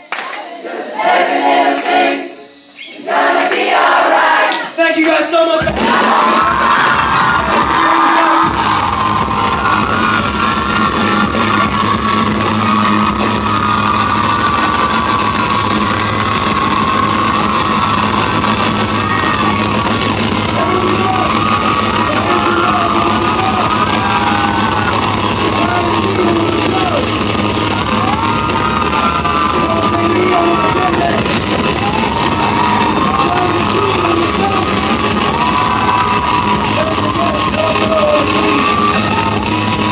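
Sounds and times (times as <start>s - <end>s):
crowd screaming and cheering: 0.0s - 39.9s
loud concert music: 1.0s - 39.9s.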